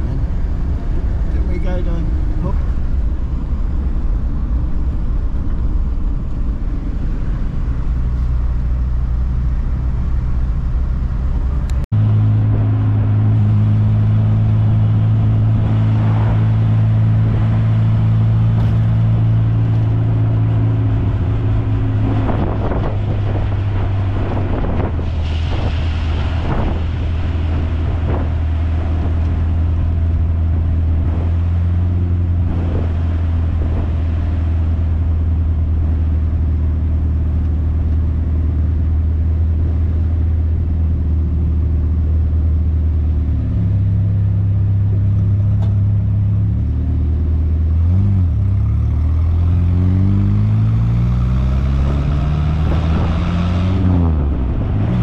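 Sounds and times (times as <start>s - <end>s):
car engine droning: 0.0s - 55.0s
road noise: 0.0s - 55.0s.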